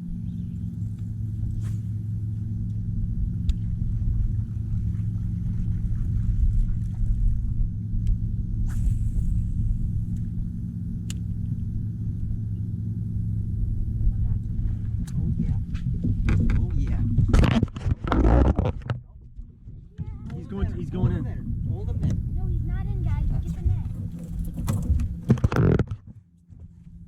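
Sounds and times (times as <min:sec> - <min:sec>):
boat motor rumbling: 0:00.0 - 0:27.0.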